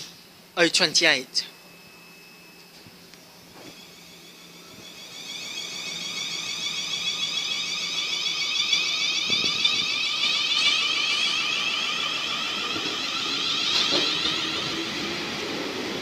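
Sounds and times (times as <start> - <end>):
electric train motor whine: 1.3 - 16.0.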